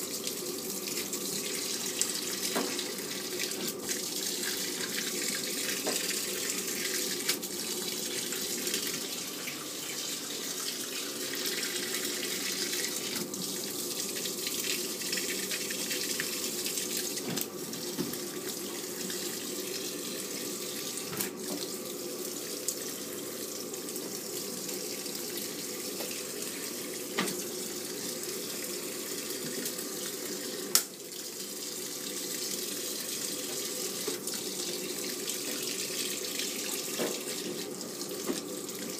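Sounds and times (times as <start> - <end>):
water filling washing machine: 0.0 - 38.9.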